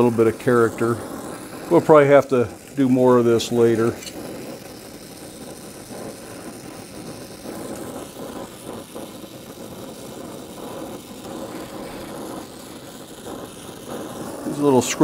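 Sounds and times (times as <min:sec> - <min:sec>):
welding torch flame rushing: 0:00.0 - 0:15.0.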